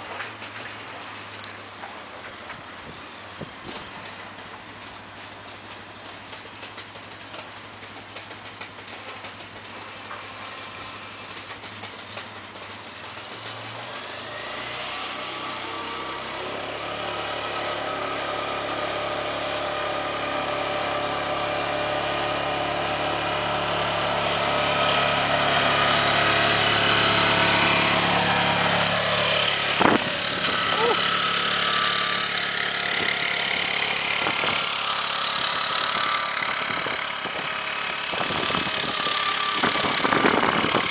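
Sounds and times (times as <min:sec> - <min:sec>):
atv engine approaching: 0:00.0 - 0:40.9.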